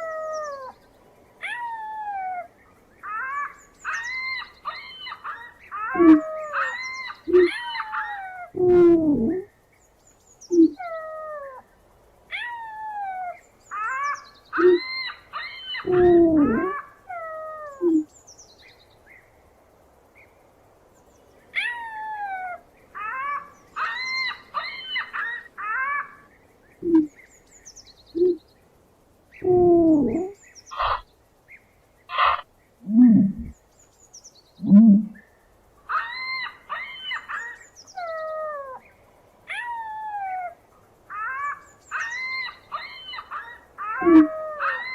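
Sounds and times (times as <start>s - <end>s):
low falling bird calls: 0.0s - 19.4s, 21.0s - 28.7s, 29.3s - 44.9s
birds chirping: 0.0s - 44.9s.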